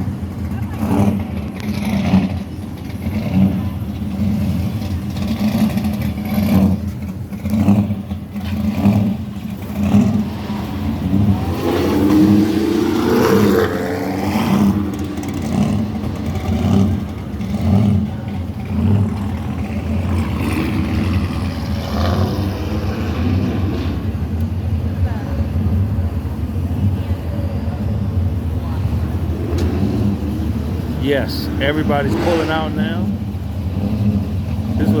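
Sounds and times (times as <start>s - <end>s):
car engines rumbling: 0.0s - 35.0s
engine revving: 0.0s - 35.0s.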